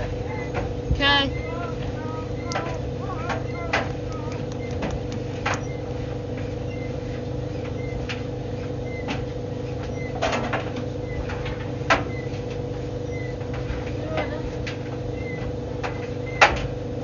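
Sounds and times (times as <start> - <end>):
tumble dryer motor hum: 0.0 - 17.0.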